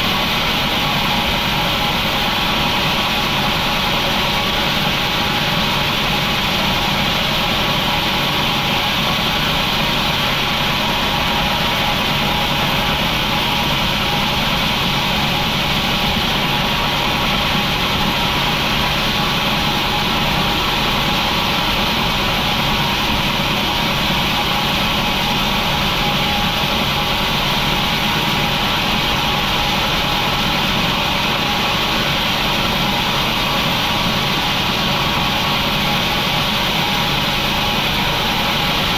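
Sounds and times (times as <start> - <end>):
industrial machinery drone: 0.0 - 38.9.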